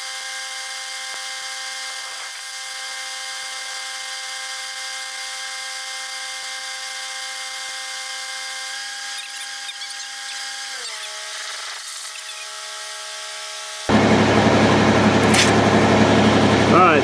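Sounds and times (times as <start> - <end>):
machine whining hum: 0.0 - 17.0.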